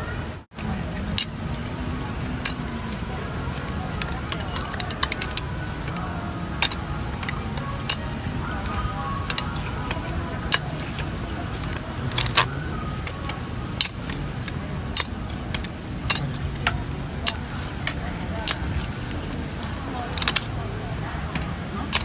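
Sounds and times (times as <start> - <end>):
murmuring voices: 0.0 - 22.0.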